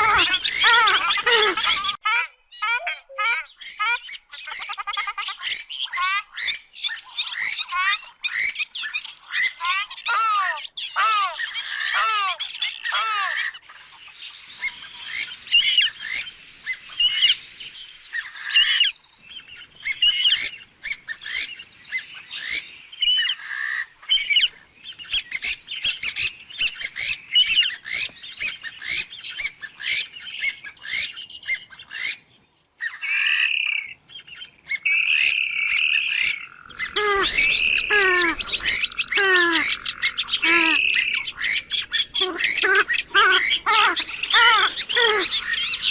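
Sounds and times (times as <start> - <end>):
bird clicks and cackles: 0.0 - 45.9
birds squealing calls: 0.0 - 45.9
lower repeated bird call: 0.0 - 45.9.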